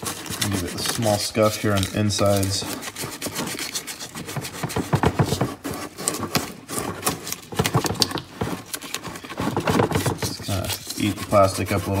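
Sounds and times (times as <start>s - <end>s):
sandpaper rubbing on plastic: 0.0s - 12.0s.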